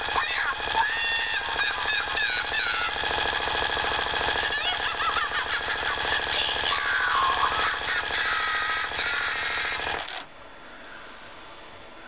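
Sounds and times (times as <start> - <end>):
high electronic cries: 0.0 - 10.2
toy motor rattling: 0.0 - 10.3.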